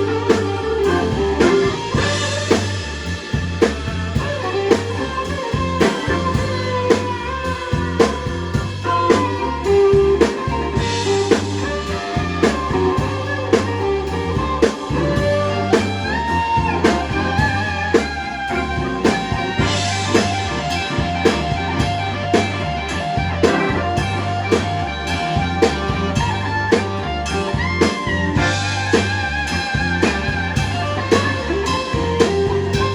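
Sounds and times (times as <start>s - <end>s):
bass: 0.0s - 32.9s
electric guitar lead: 0.0s - 32.9s
steady drum beat: 0.0s - 32.9s.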